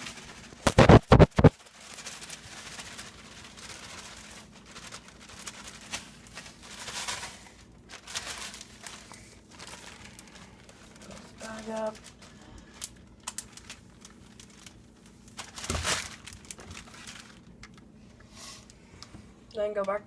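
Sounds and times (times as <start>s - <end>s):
plastic packaging crinkling: 0.0s - 18.0s.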